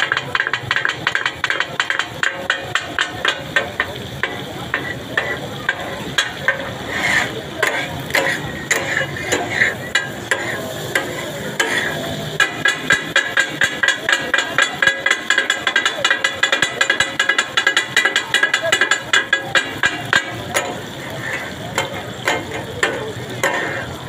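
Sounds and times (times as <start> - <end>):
food sizzling on hot plate: 0.0 - 24.0
spatulas clanging on griddle: 0.0 - 24.0.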